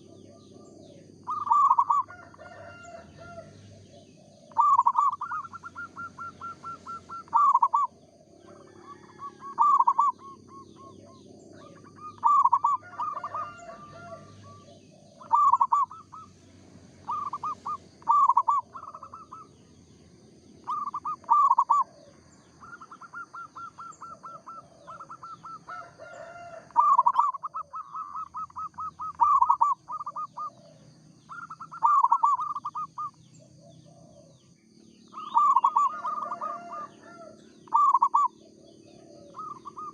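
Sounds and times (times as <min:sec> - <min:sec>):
doves cooing: 0:00.0 - 0:39.9
other birds calling: 0:00.0 - 0:39.9.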